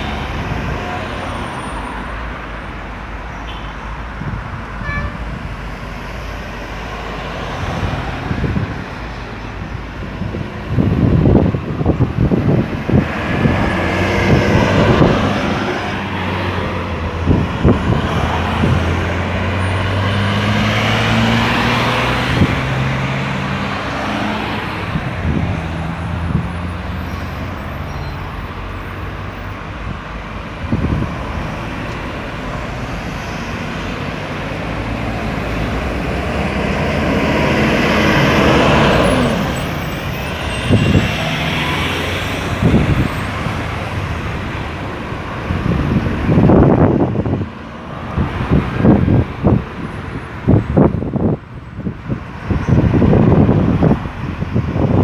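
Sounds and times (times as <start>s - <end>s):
heavy vehicle engine: 0.0s - 55.0s
road traffic passing: 0.0s - 55.0s.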